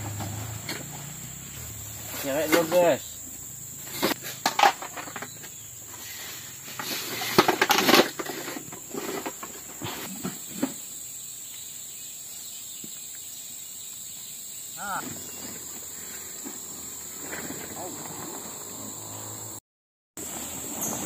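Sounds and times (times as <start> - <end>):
high-pitched insect chorus: 0.0 - 19.6, 20.2 - 21.0.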